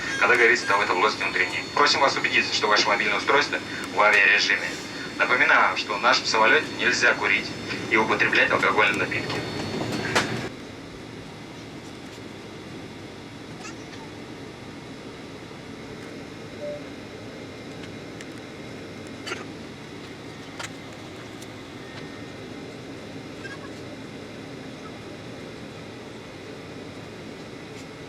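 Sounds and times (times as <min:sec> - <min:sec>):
airliner cabin hum: 0:00.0 - 0:28.0.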